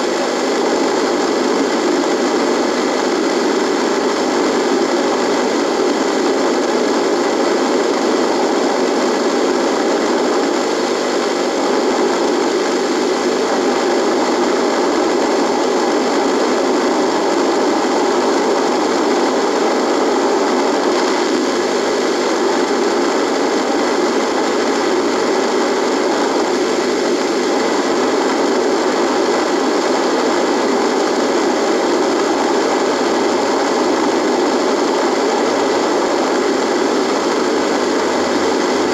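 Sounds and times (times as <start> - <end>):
radio static hiss: 0.0 - 38.9.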